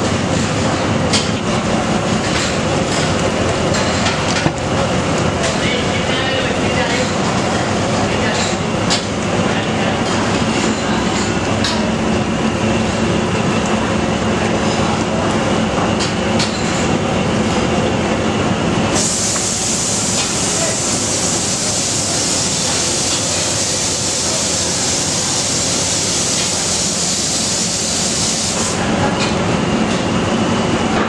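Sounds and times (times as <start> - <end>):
busy kitchen roar: 0.0 - 31.0.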